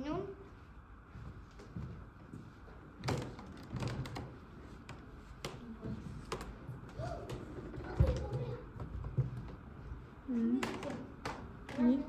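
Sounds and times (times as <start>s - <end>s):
low room noise: 0.0s - 12.0s.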